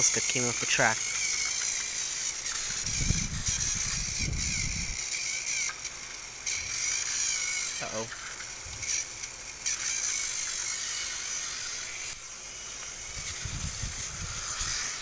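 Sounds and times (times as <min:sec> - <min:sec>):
toy train motors whining: 0:00.0 - 0:15.0.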